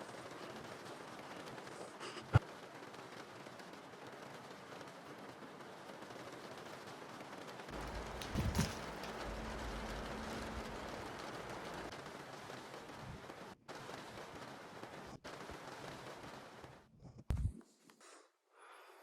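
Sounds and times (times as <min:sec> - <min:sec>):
rain hiss: 0:00.0 - 0:16.8.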